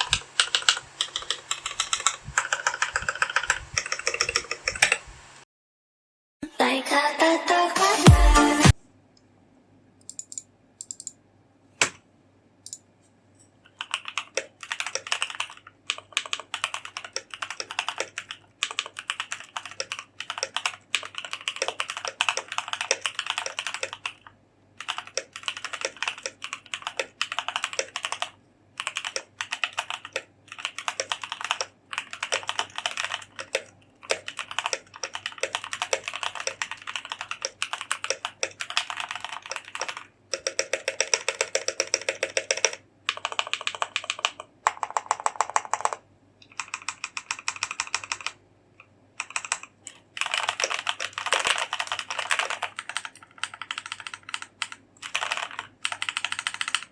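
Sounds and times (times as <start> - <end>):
mechanical keyboard typing: 0.0 - 5.3, 10.0 - 11.2, 13.7 - 56.9.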